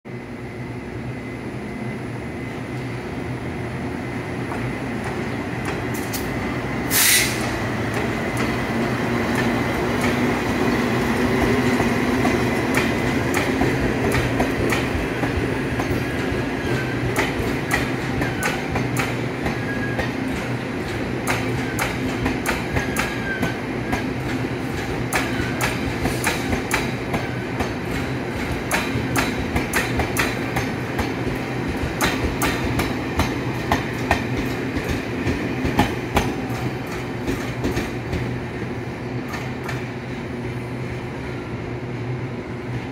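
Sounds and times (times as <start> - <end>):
train rumble and hum: 0.1 - 42.9.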